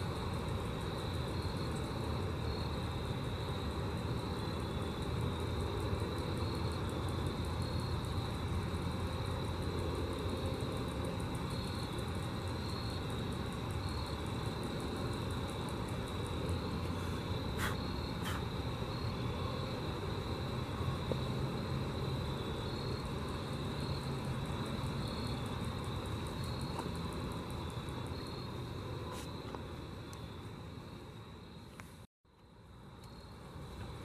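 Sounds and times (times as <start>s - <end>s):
grasshoppers stridulating: 0.0s - 34.0s.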